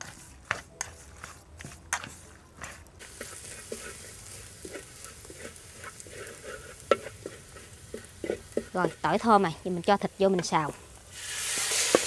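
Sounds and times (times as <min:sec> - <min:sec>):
garlic sizzling in hot oil: 0:00.0 - 0:12.0
wooden spatula scraping wok: 0:00.0 - 0:12.0.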